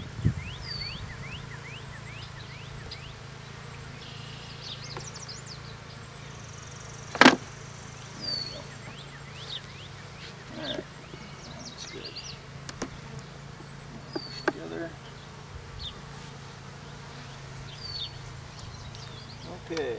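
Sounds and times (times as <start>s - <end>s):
bees buzzing: 0.0s - 19.9s
bird chirping: 0.0s - 19.9s.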